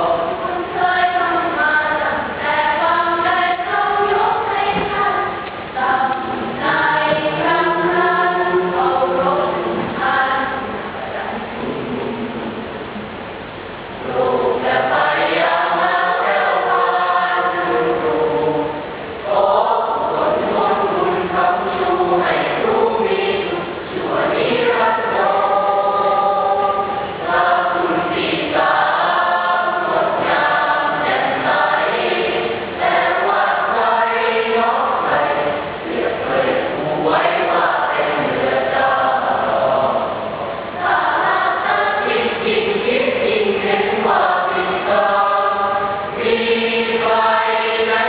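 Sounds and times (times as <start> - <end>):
choir singing in parts: 0.0 - 48.0.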